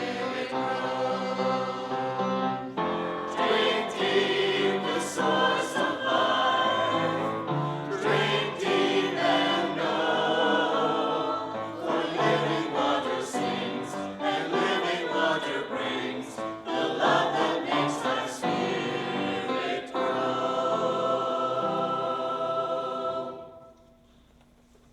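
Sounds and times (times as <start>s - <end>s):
church choir singing: 0.0s - 24.0s.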